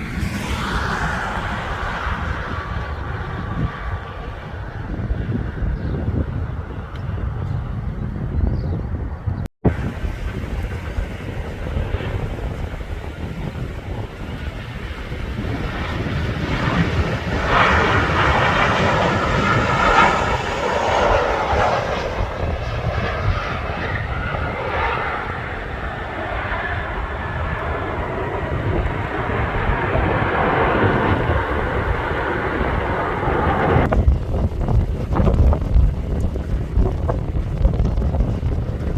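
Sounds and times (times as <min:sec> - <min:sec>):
jet airliner engines passing: 0:00.0 - 0:38.9
wind rumble on microphone: 0:00.0 - 0:38.9.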